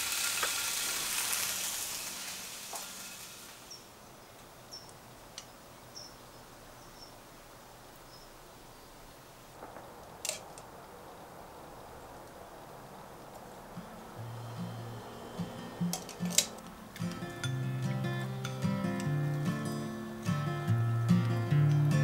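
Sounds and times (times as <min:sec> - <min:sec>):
frying pan sizzle: 0:00.0 - 0:05.0, 0:09.3 - 0:22.0.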